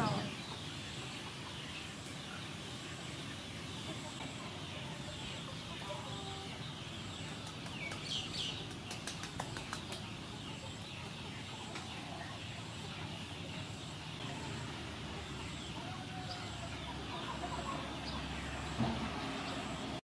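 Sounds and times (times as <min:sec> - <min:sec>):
bird calls: 0:00.0 - 0:20.0
outdoor background hiss: 0:00.0 - 0:20.0.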